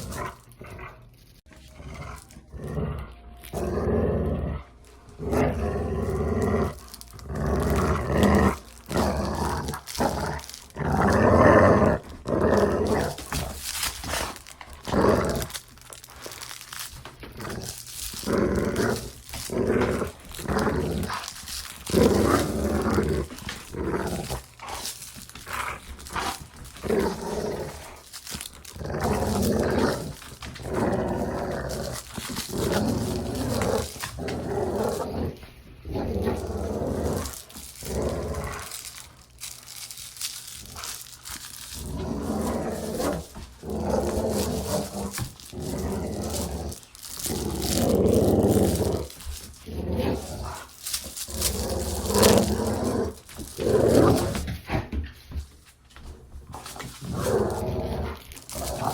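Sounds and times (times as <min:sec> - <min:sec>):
dog growling: 0:00.0 - 0:55.0, 0:56.6 - 0:58.9.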